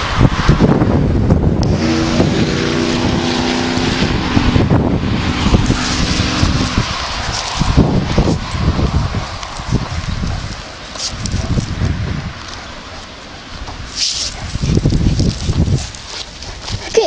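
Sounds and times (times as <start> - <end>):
engine hum: 0.0 - 17.0
wind buffeting microphone: 0.0 - 17.0.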